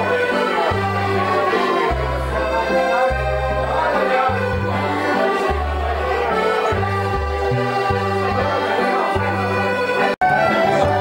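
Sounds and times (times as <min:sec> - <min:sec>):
accordion playing dance tune: 0:00.0 - 0:11.0.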